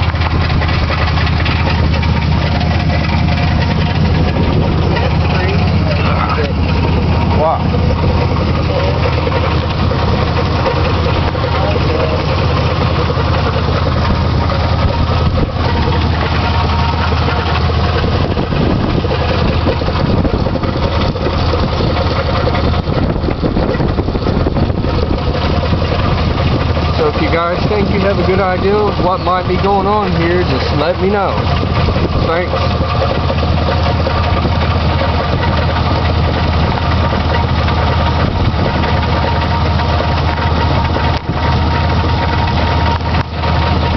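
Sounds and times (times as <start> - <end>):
engine idling: 0.0 - 43.9
engine rattle: 0.0 - 43.9.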